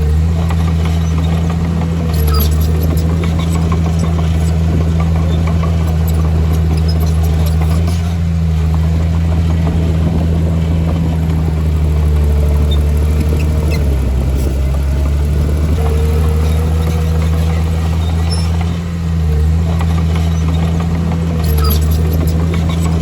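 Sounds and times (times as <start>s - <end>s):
diesel machine engine running: 0.0s - 23.0s.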